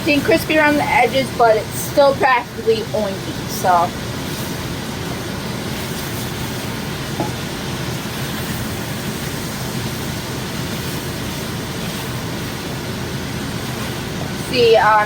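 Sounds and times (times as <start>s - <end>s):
bacon sizzling in a frying pan: 0.0s - 15.0s.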